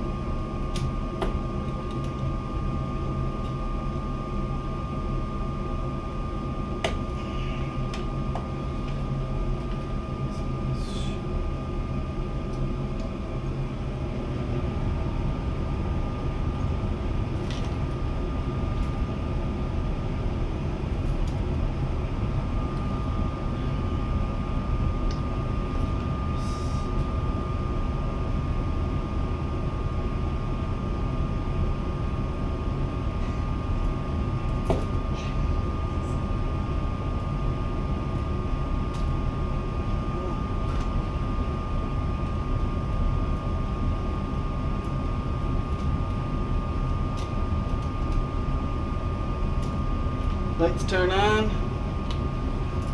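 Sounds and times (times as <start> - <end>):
constant high whine: 0.0 - 52.9
steady mechanical drone: 0.0 - 52.9.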